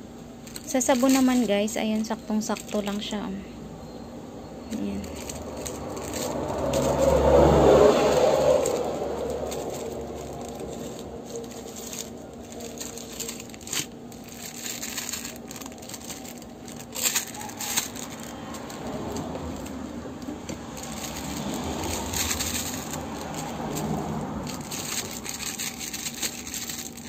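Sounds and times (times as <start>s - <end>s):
plastic sachets crinkling: 0.4s - 3.2s, 4.7s - 27.0s.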